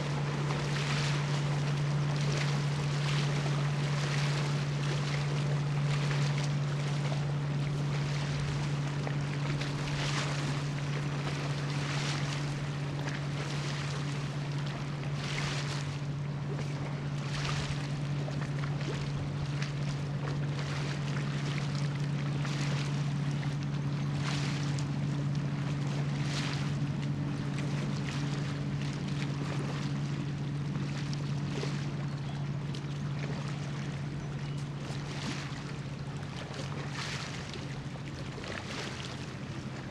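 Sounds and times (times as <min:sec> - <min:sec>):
ship engines humming: 0:00.0 - 0:39.9
water noise: 0:00.0 - 0:39.9
wind: 0:00.0 - 0:39.9.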